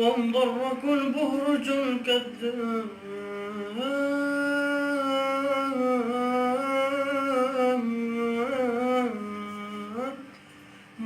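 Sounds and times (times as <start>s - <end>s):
man singing long wordless note: 0.0s - 10.4s.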